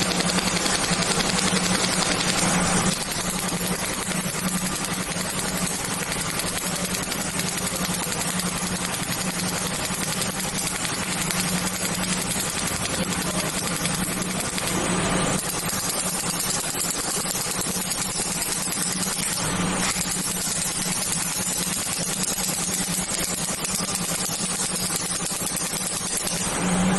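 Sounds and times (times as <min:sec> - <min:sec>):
machine hum and hiss: 0:00.0 - 0:26.9.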